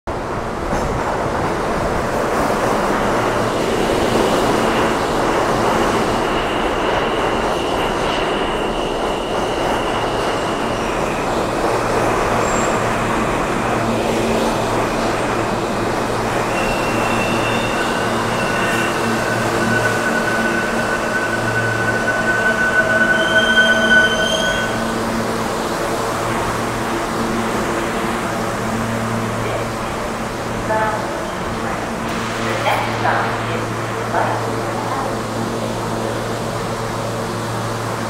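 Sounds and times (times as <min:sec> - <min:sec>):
high train whine: 0:00.1 - 0:38.0
train wheels rumbling on rail: 0:00.1 - 0:38.0.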